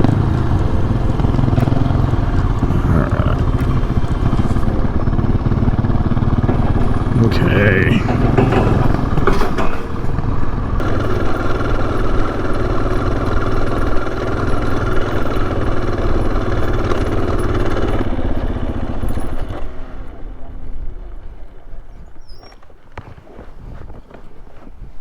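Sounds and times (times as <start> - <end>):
motorcycle engine running at low revs: 0.0 - 24.7.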